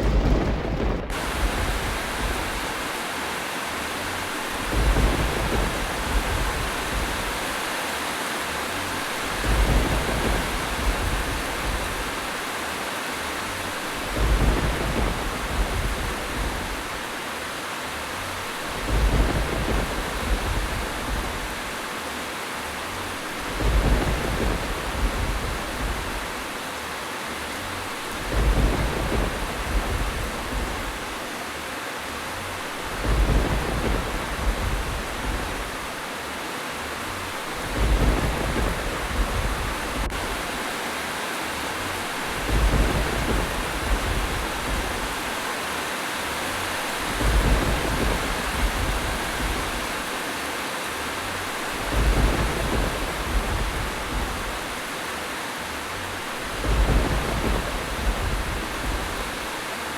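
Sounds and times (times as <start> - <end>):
low thunder rumble: 0.0 - 3.1, 4.0 - 7.8, 8.5 - 17.2, 18.0 - 22.0, 22.6 - 26.6, 27.4 - 31.4, 32.0 - 40.8, 41.5 - 45.8, 46.4 - 50.4, 51.0 - 55.2, 55.8 - 59.9
steady rain: 0.0 - 59.9.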